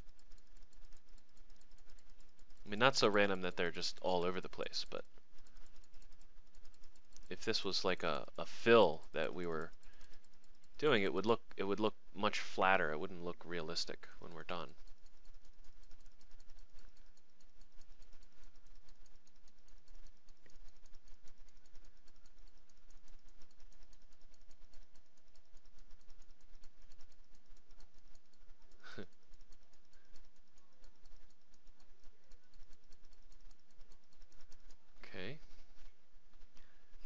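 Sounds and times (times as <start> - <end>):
computer mouse clicking: 0.0 - 37.0.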